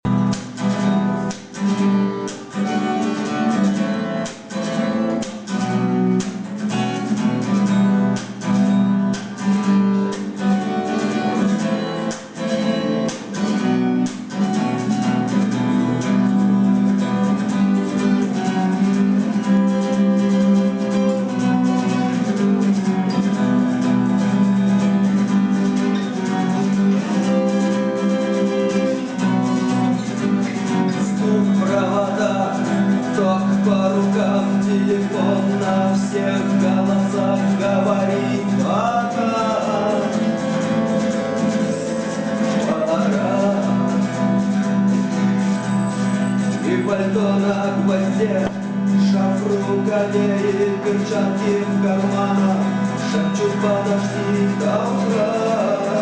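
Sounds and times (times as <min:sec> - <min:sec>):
guitar strumming chords: 0:00.0 - 0:56.0.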